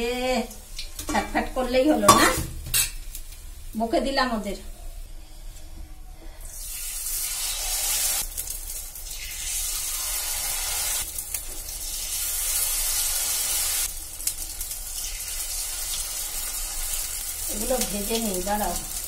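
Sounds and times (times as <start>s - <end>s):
hot oil sizzling: 0.0s - 5.1s, 6.4s - 19.0s.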